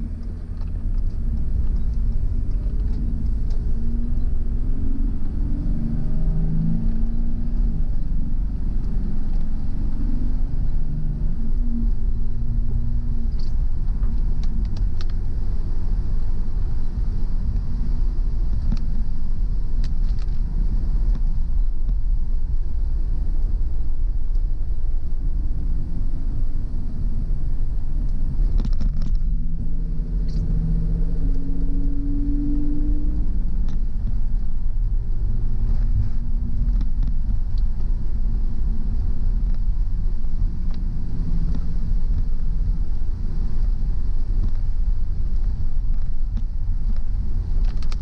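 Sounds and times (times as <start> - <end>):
humming engine note: 0.0 - 48.0
road and engine rumble: 0.0 - 48.0.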